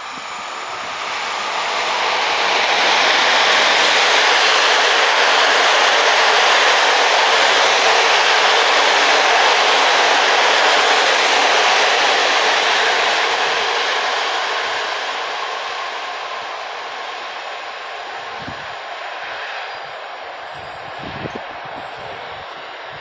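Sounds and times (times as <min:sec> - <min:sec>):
train wheels rushing on rails: 0:00.0 - 0:23.0.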